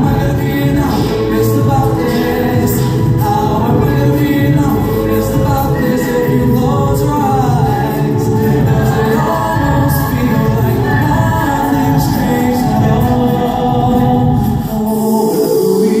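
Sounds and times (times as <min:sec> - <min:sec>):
group singing a cappella: 0:00.0 - 0:16.0.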